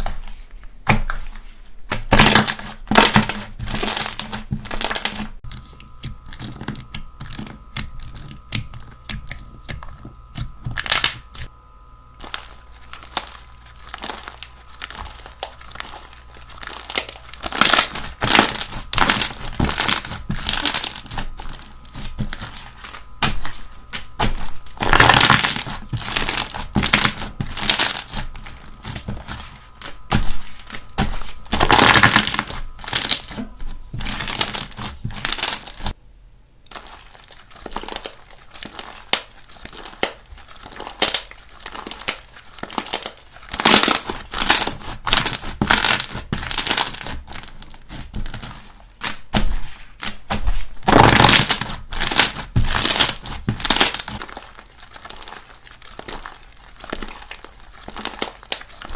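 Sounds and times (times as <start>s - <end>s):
slime squeezed crackling: 6.0s - 11.5s, 12.2s - 36.0s, 36.7s - 58.9s.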